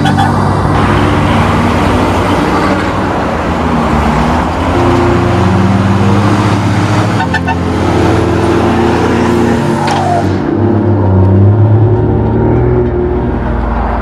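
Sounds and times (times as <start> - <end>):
loud vehicle engine: 0.0 - 14.0.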